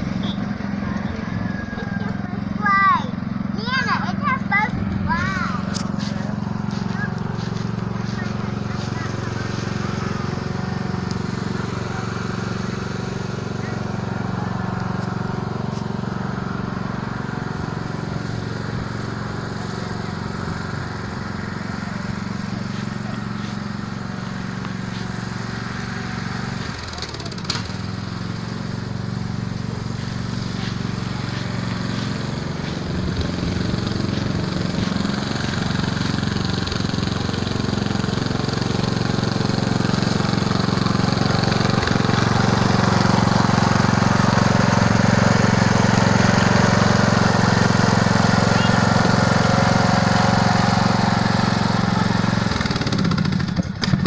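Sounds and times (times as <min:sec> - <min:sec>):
ride-on lawn mower engine: 0:00.0 - 0:54.0.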